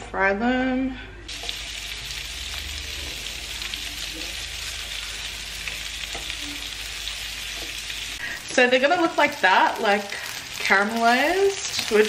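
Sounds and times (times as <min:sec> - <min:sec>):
sausage sizzling in a frying pan: 0:01.3 - 0:12.0.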